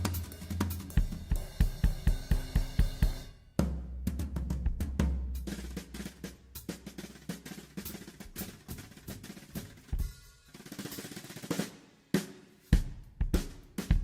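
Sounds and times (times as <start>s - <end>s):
drums being played: 0.0s - 14.0s.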